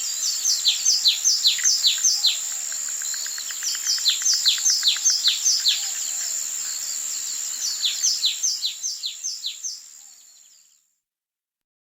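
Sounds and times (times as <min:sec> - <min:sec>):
songbirds chirping: 0:00.0 - 0:10.9.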